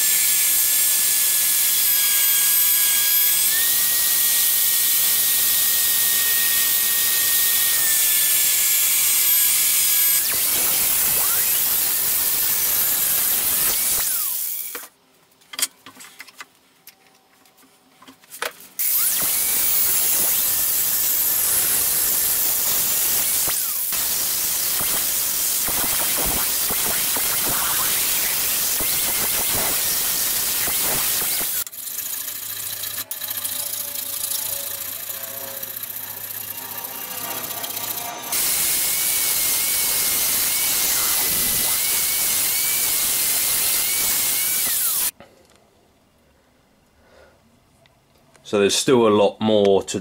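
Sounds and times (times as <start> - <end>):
angle grinder cutting metal: 0.0 - 14.9, 18.8 - 45.2.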